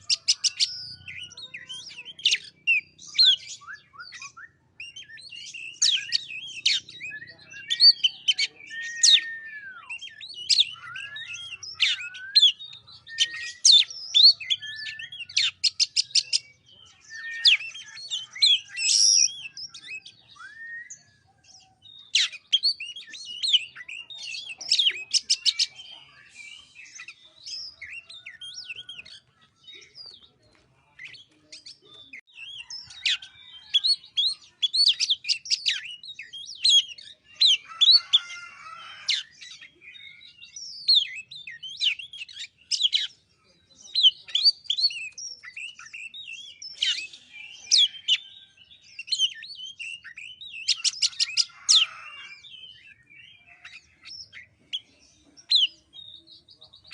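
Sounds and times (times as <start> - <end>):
bird singing whistled trills: 0.0 - 30.3, 31.0 - 43.1, 44.1 - 56.9.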